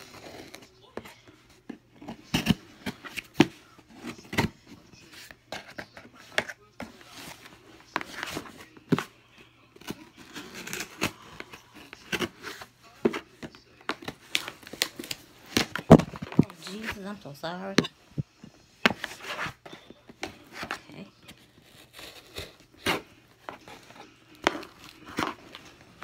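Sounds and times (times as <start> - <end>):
paper and cardboard handling: 0.0 - 26.0.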